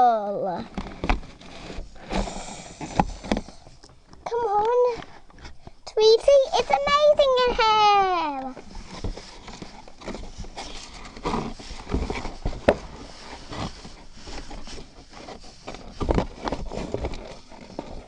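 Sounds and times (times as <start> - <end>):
toys being handled: 0.4 - 18.0.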